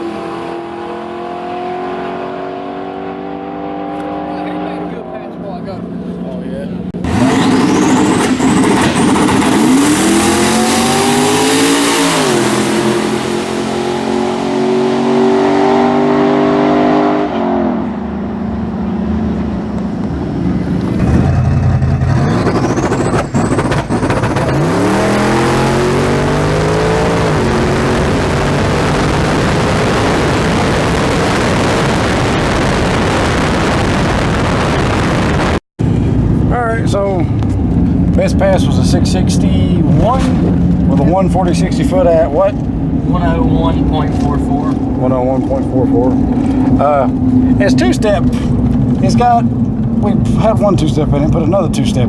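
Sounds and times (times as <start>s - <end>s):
truck engine revving at full throttle: 0.0s - 52.0s.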